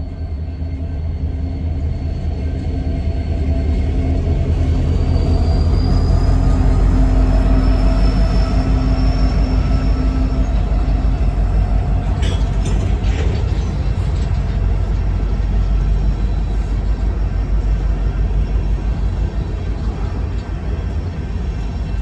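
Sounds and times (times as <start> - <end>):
diesel locomotive engine drone: 0.0 - 22.0
hopper cars rumbling on rails: 0.0 - 22.0.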